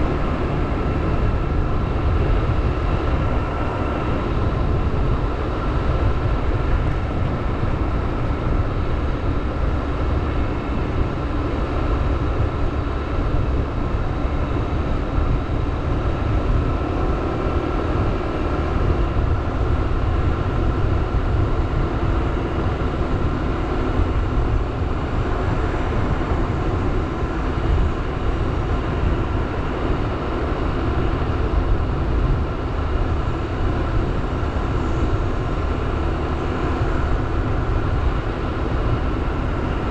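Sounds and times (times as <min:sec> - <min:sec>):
motorbike engine drone: 0:00.0 - 0:39.9
wind rumble on microphone: 0:00.0 - 0:39.9.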